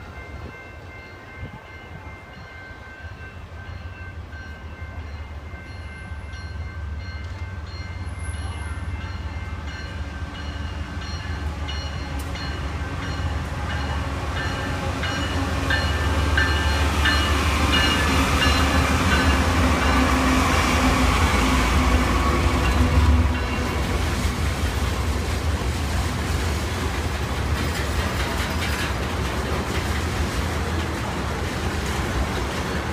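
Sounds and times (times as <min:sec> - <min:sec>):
train wheel noise: 0:00.0 - 0:32.9
locomotive engine rumble: 0:06.0 - 0:32.9.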